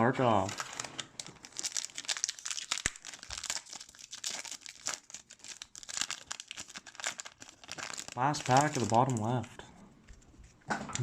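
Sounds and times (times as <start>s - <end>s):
wrapper crinkling and tearing: 0.2s - 9.6s.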